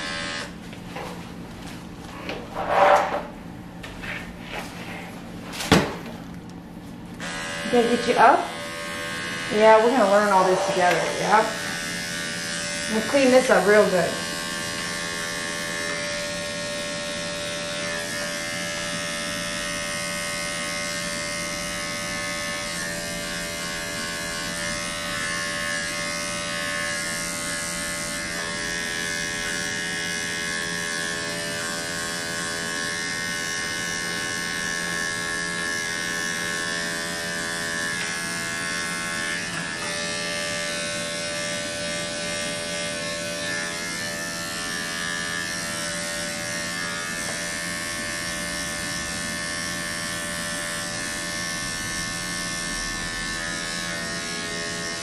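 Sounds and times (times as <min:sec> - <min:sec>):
electric clipper buzzing: 0:00.0 - 0:01.1, 0:07.1 - 0:55.0.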